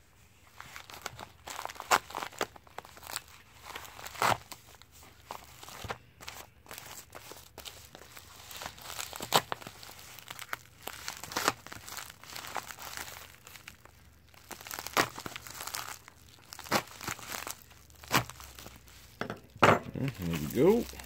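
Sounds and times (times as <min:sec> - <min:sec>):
plastic mailer crinkling: 0:00.5 - 0:21.0.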